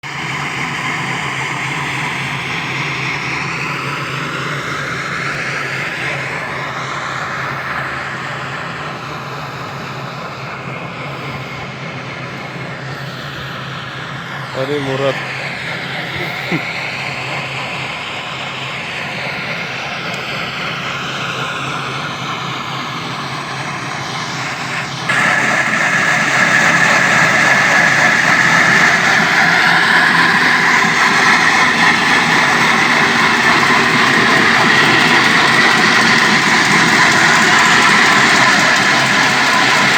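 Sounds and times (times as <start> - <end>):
machinery low hum: 0.4 - 39.9.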